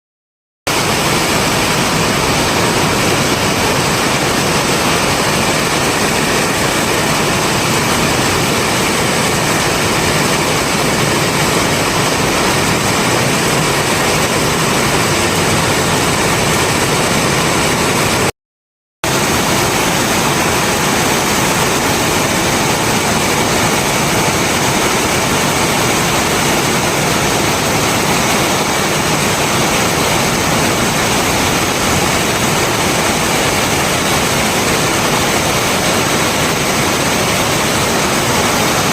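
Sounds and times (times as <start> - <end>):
heavy rain hissing: 0.8 - 18.3, 19.1 - 38.9.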